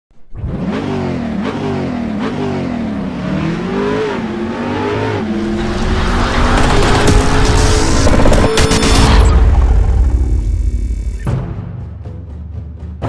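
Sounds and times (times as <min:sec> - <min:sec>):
car engine revving: 0:00.3 - 0:11.3.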